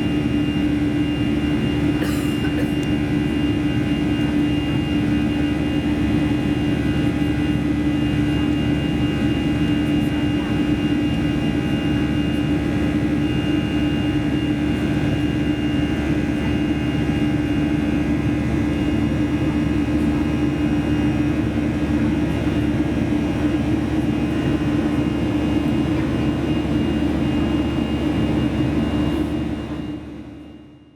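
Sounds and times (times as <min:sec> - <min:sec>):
jet engines in airplane cabin: 0:00.0 - 0:30.9.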